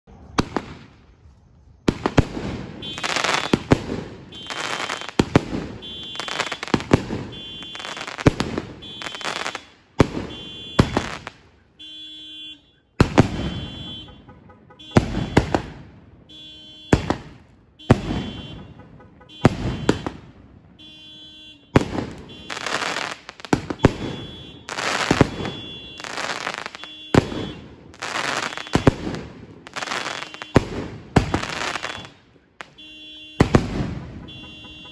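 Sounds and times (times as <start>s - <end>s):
firework shots crackling: 0.2s - 1.2s, 1.9s - 11.7s, 13.0s - 34.9s.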